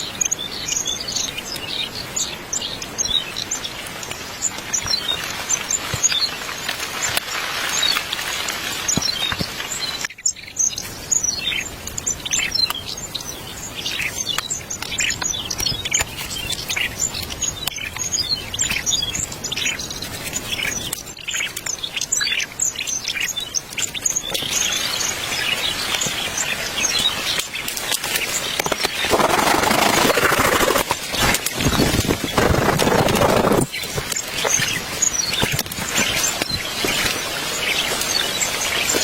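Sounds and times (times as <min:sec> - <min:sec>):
outdoor background noise: 0:00.0 - 0:39.0
small birds chirping: 0:00.0 - 0:39.0.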